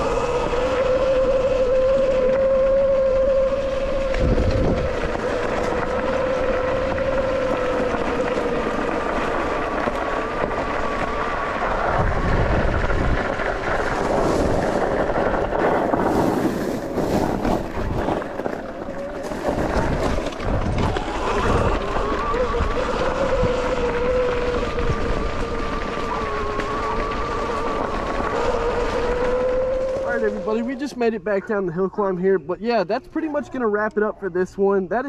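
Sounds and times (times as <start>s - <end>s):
electric motorbike whine: 0.0s - 34.1s
wind buffeting microphone: 0.0s - 35.0s.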